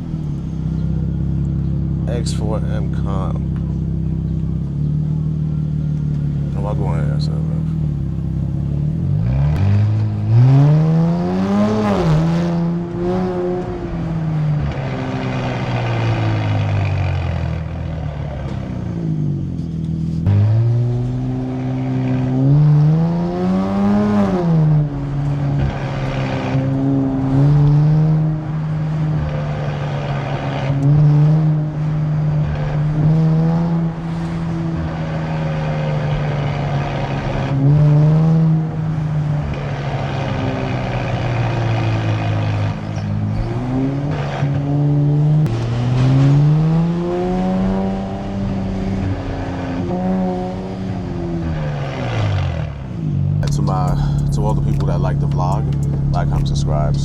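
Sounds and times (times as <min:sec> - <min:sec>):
car engine cruising: 0:00.0 - 0:57.0
car engine revving: 0:00.0 - 0:57.0.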